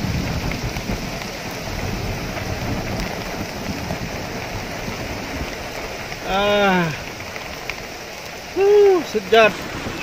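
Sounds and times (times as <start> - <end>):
heavy rain on pond and trees: 0.0 - 10.0.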